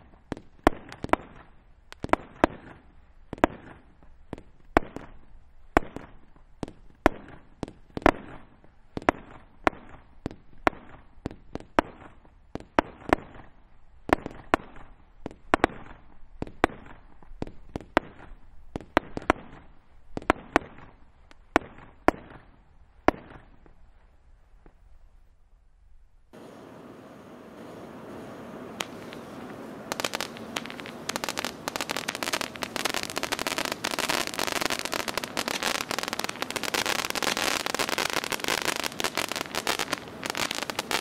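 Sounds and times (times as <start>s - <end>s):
firework bangs: 0.0s - 23.8s, 26.3s - 41.0s
firework crackling: 0.0s - 25.0s, 26.3s - 41.0s.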